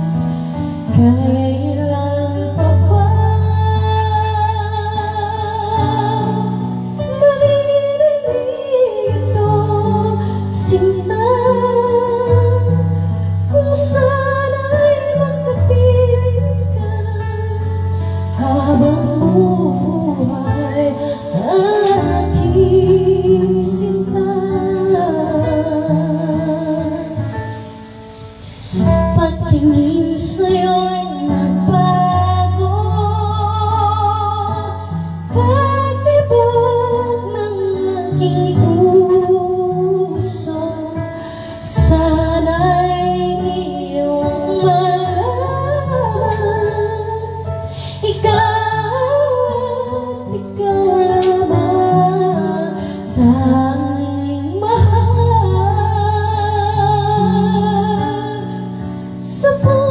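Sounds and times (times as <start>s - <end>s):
backing music with low bass: 0.0s - 59.9s
woman singing with vibrato: 0.0s - 59.9s.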